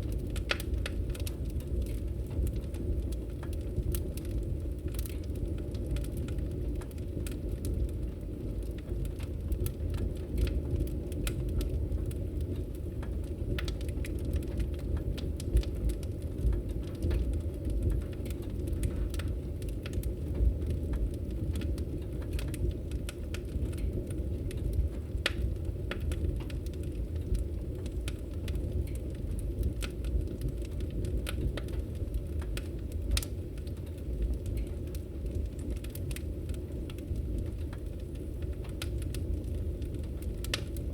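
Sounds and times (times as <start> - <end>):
firewood crackling and popping: 0.0 - 40.9
low rumble of flames: 0.0 - 40.9.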